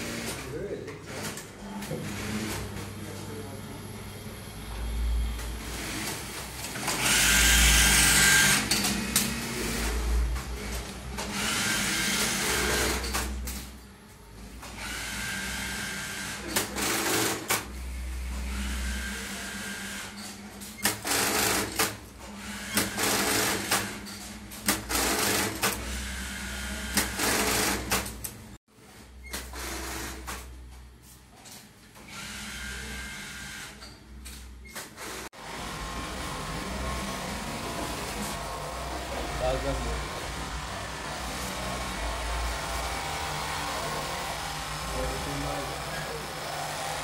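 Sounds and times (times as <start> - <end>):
industrial sewing machines running: 0.0 - 28.6, 29.3 - 30.6, 32.0 - 33.8, 34.8 - 47.0.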